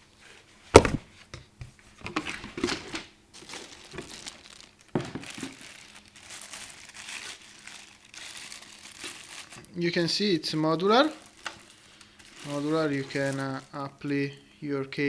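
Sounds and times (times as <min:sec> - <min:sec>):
packaging crinkling and rustling: 0:02.1 - 0:14.4.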